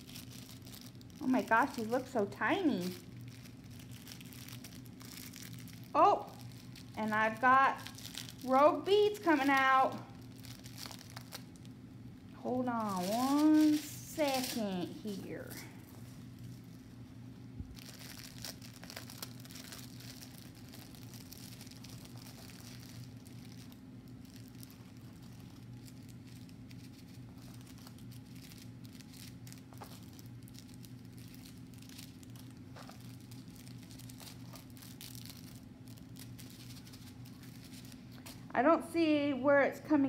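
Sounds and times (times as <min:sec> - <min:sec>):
plastic packaging crinkling: 0:00.0 - 0:38.5
faint low hum: 0:00.0 - 0:40.0.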